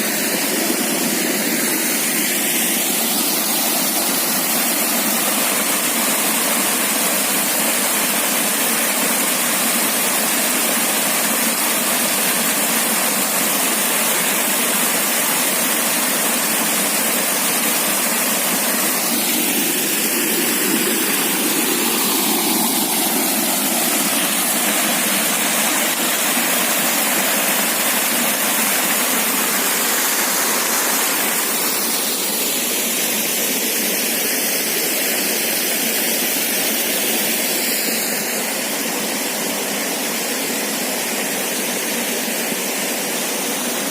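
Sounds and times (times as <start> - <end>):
waterfall pouring into pool: 0.0 - 43.9.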